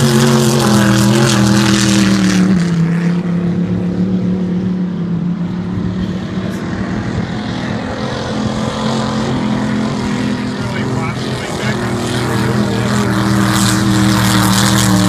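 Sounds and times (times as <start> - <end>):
powerboat engine drone: 0.0 - 15.0.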